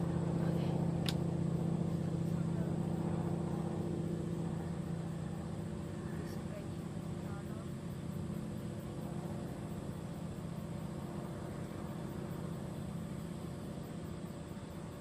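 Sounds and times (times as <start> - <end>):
faint high whine: 0.0 - 15.0
low background hum: 0.0 - 15.0.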